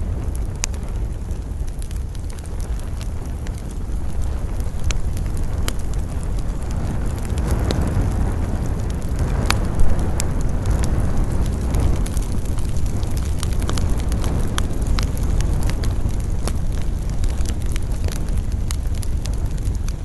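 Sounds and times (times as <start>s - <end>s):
campfire crackling and popping: 0.0s - 20.0s
wind: 0.0s - 20.0s.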